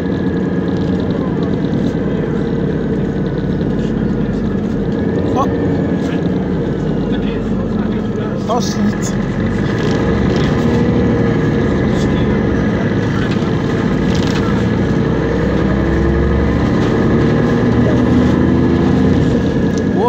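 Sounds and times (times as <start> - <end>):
bus engine and transmission: 0.0 - 20.0.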